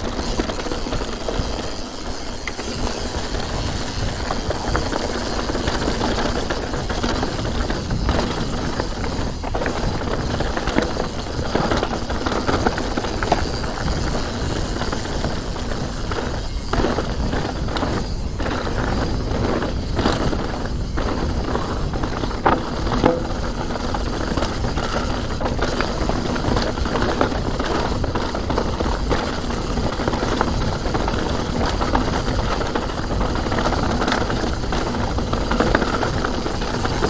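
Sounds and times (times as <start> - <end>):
bike rattling and clicking: 0.0 - 37.0
bike tyres rolling on dirt: 0.0 - 37.0.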